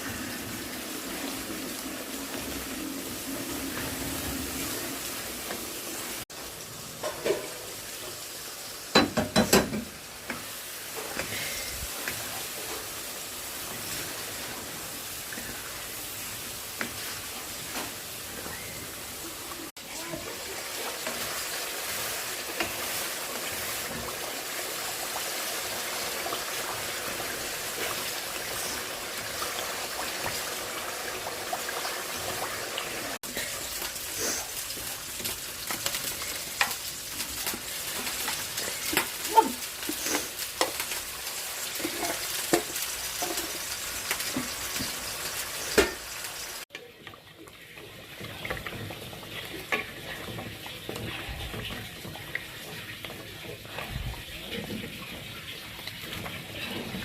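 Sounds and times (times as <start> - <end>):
curry sizzling in a pan: 0.0 - 57.0.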